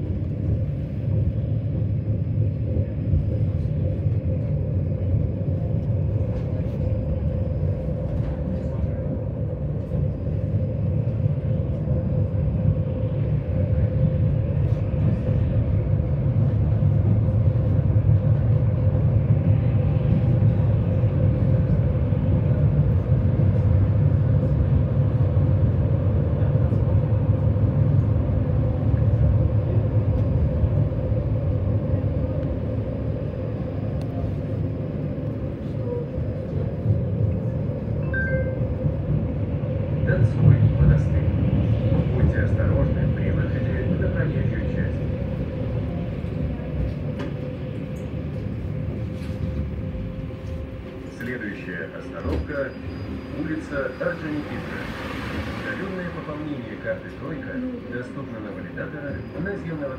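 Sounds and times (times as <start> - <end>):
constant hum: 0.0 - 59.9
tram wheels rumbling on rails: 0.0 - 59.9.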